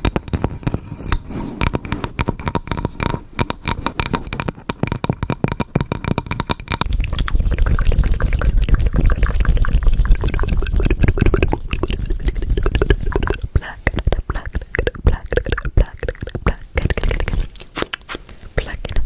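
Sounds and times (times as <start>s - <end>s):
wet clicking and crackling: 2.1s - 18.2s.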